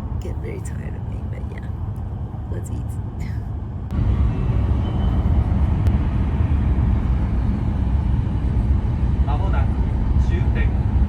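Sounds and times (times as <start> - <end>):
train cabin low rumble: 0.0 - 11.0.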